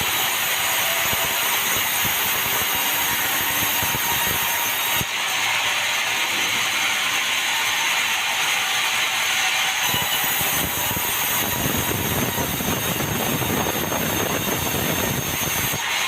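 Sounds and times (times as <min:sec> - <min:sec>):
sawmill saw cutting timber: 0:00.0 - 0:16.0.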